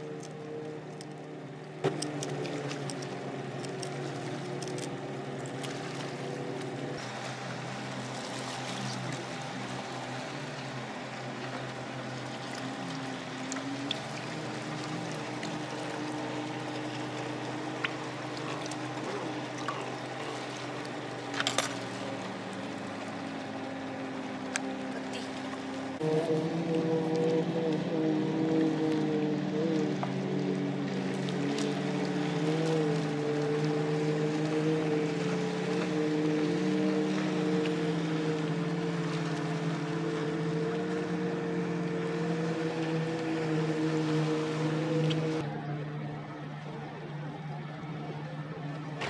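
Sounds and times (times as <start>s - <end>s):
water sloshing and dripping: 0.0s - 49.0s.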